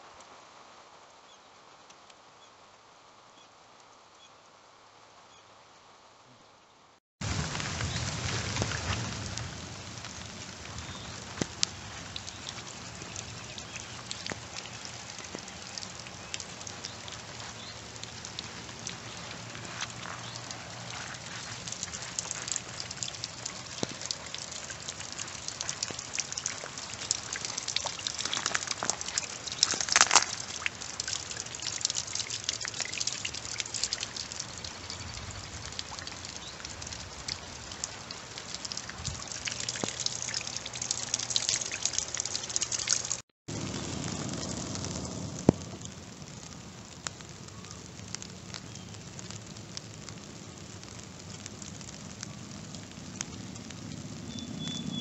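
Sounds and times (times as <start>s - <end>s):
rain pattering: 7.2s - 55.0s.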